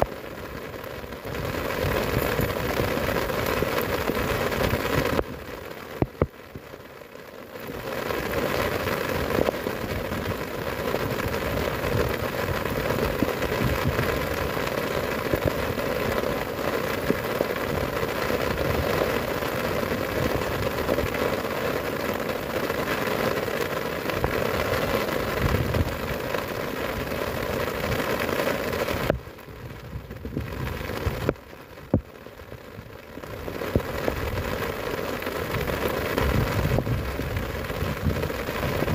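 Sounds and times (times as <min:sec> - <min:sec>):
heavy rain on grass: 0:00.0 - 0:38.9.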